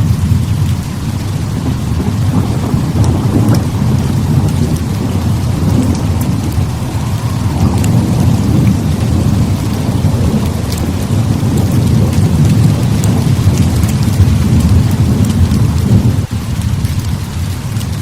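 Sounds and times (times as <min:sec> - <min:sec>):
heavy rain: 0:00.0 - 0:18.0
low rumble of thunder: 0:00.0 - 0:18.0.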